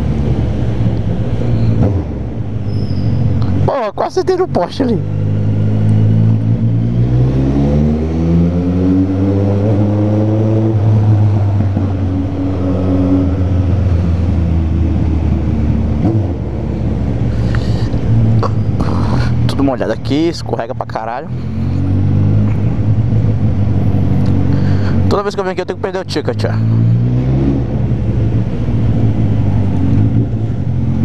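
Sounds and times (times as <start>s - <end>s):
motorcycle engine at low revs: 0.0s - 31.0s.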